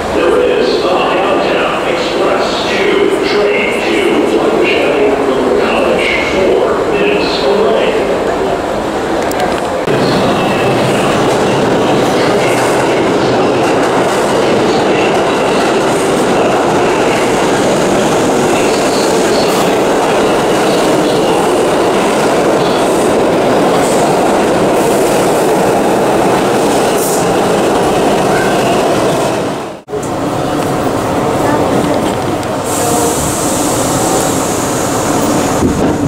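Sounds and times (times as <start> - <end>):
subway train wheels on rails: 0.0 - 36.0.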